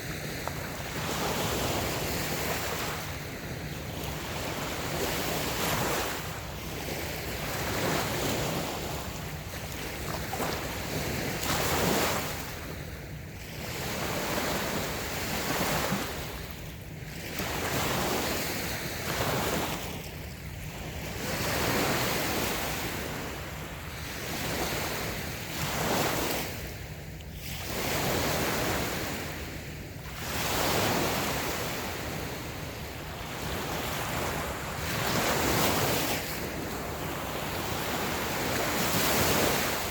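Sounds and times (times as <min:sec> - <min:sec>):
waves washing up a beach: 0:00.0 - 0:39.9.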